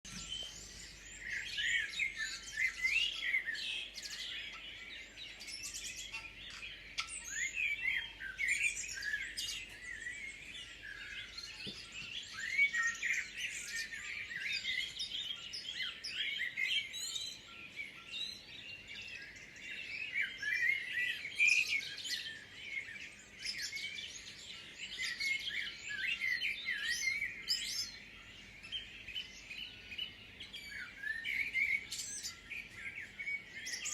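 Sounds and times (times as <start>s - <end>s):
chorus of small birds chirping: 0.0s - 33.9s.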